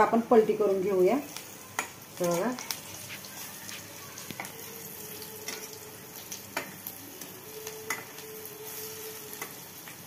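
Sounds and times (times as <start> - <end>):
patties sizzling in oil: 0.0 - 10.0.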